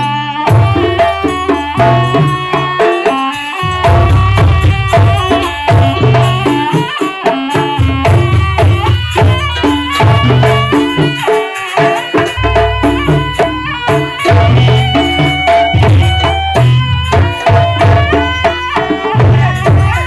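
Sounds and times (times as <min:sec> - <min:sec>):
drums: 0:00.0 - 0:20.0
gamelan ensemble music: 0:00.0 - 0:20.0.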